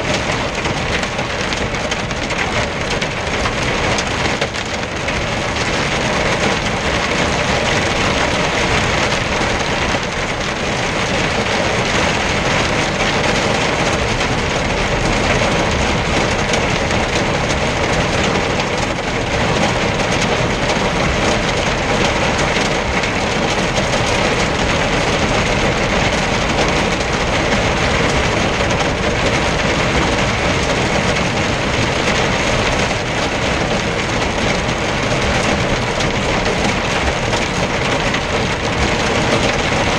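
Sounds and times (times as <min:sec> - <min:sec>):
hail and rain drumming on cab: 0:00.0 - 0:39.9
tyre noise on slushy road: 0:00.0 - 0:39.9.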